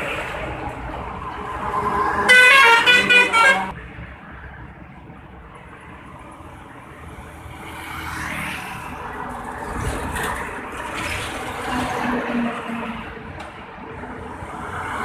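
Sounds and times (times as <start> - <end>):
heavy trucks passing: 0.0 - 15.0.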